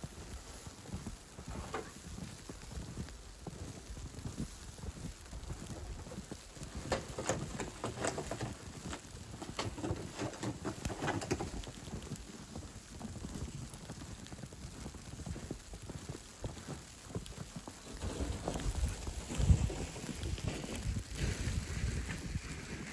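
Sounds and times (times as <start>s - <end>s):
footsteps crunching in snow: 0.0s - 22.9s.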